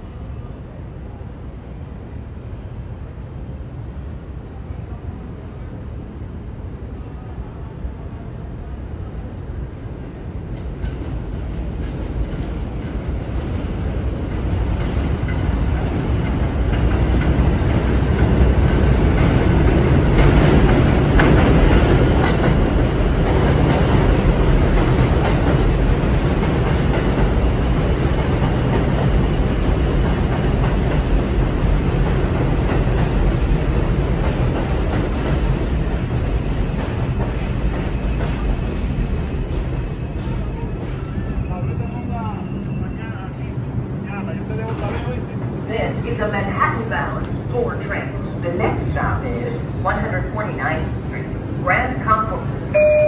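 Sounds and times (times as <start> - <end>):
subway train running: 0.0 - 53.0.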